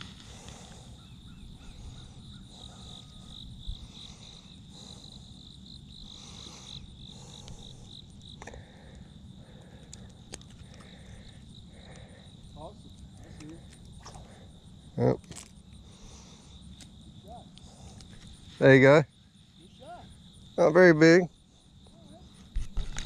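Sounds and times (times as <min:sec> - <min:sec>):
insect trilling: 0:00.0 - 0:23.0.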